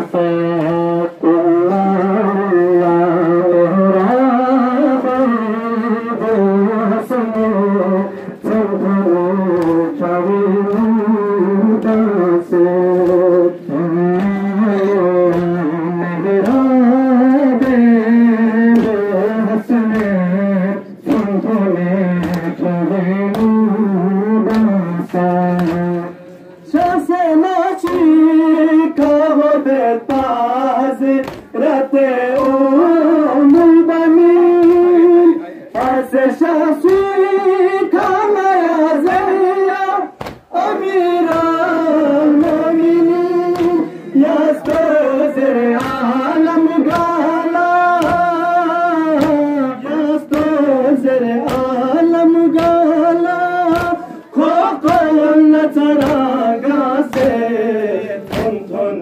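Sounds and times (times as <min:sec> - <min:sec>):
men chanting a lament over loudspeaker: 0:00.0 - 0:59.0
crowd chest-beating: 0:00.1 - 0:59.0.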